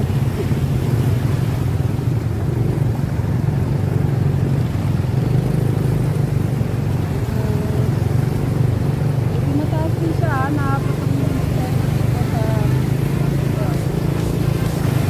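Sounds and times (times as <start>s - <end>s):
motorcycle engine and road noise: 0.0s - 15.0s.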